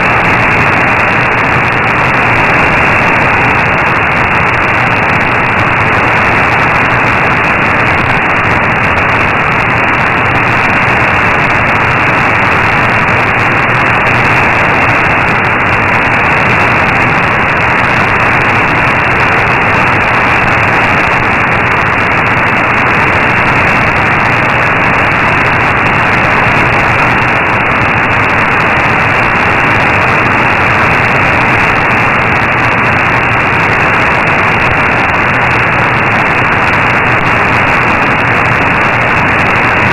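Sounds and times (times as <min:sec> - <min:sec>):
muffled shortwave radio static: 0:00.0 - 0:39.9.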